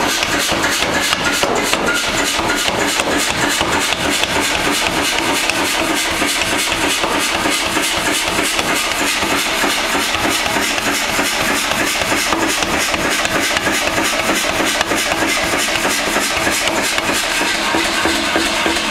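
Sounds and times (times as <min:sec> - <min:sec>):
power hammer beating hot iron: 0:00.0 - 0:18.9.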